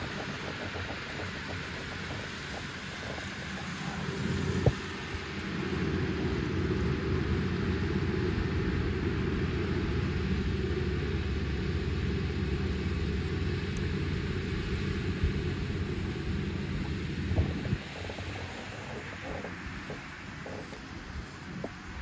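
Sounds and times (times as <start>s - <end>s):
combine harvester rumbling: 0.0s - 22.0s.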